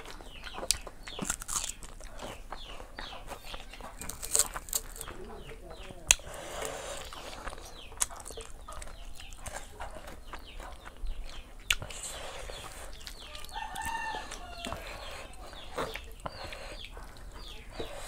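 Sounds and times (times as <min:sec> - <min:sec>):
chickens clucking and peeping: 0:00.0 - 0:18.0.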